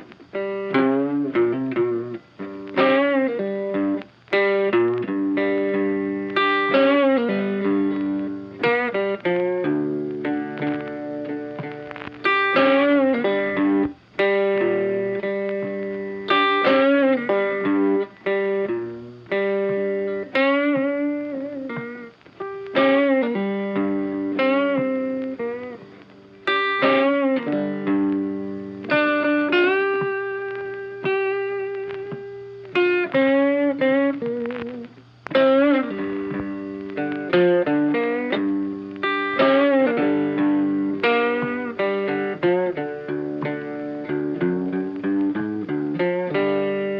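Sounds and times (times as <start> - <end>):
guitar plucked melody: 0.0 - 46.9.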